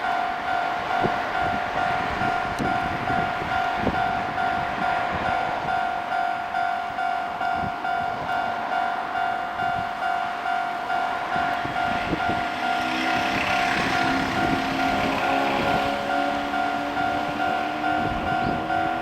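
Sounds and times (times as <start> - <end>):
level crossing alarm bell: 0.0 - 19.0
train passing over rails: 0.0 - 19.0.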